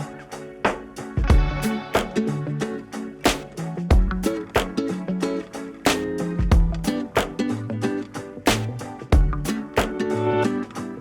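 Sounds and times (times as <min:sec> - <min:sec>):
funk music with guitar: 0:00.0 - 0:11.0.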